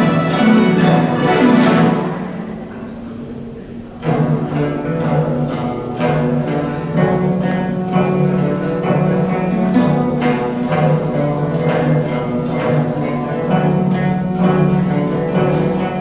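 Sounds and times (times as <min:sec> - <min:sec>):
plucked zither fast notes: 0:00.0 - 0:16.0.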